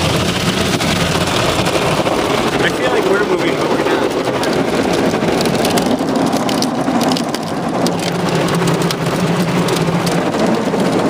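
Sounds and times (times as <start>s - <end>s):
water spraying: 0.0s - 11.0s.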